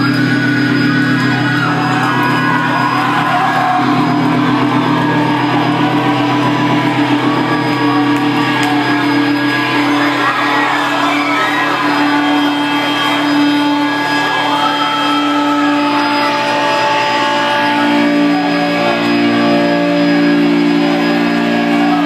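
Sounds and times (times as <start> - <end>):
audience whooping: 0.0 - 22.0
rock band playing loudly: 0.0 - 22.0.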